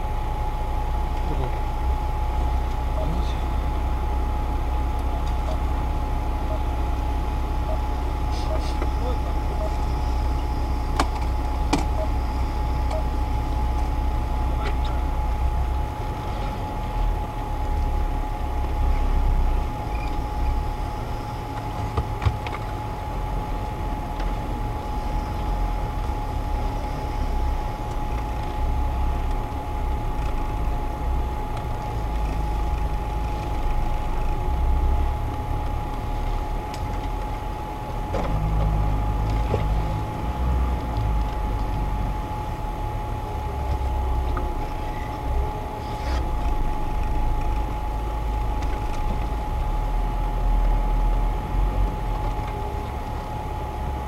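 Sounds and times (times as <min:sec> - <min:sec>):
off-road vehicle engine rumbling: 0:00.0 - 0:54.0
thin steady whine: 0:00.0 - 0:54.0.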